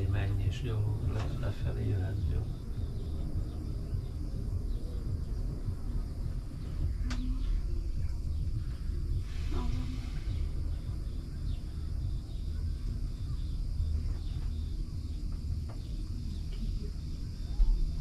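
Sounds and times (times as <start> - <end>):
insects chirring: 0.0 - 18.0
low rumble: 0.0 - 18.0.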